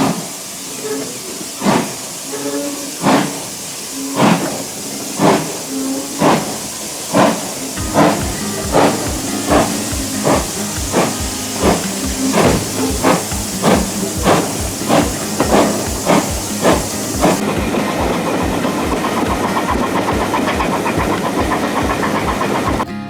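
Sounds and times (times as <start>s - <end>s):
steady rushing noise: 0.0s - 22.9s
steam hiss: 0.0s - 22.9s
locomotive exhaust chuffs: 0.0s - 23.0s.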